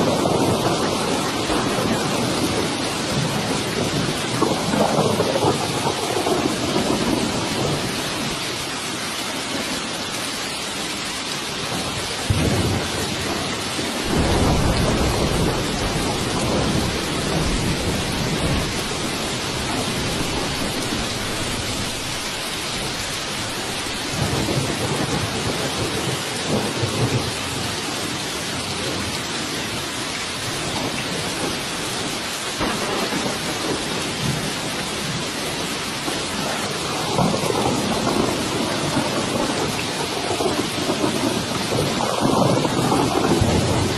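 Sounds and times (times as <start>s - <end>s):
thunder rumbling: 0.0s - 10.0s, 11.4s - 43.9s
heavy rain hissing: 0.0s - 43.9s.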